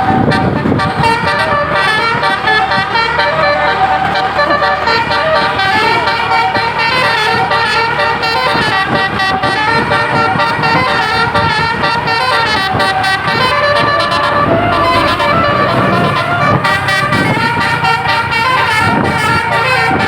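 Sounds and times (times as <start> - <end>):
multi-tone bus horn melody: 0.0 - 20.0.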